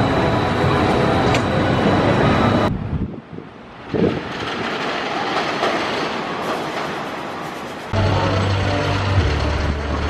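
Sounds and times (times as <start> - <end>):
roller coaster rumbling and clattering: 0.0 - 10.0.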